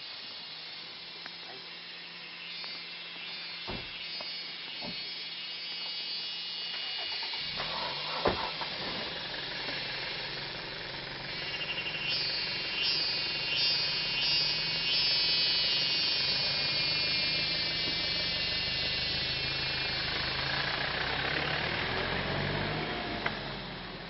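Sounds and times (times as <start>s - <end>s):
steady hiss: 0.0s - 22.3s
high-pitched insect buzz: 0.0s - 22.7s.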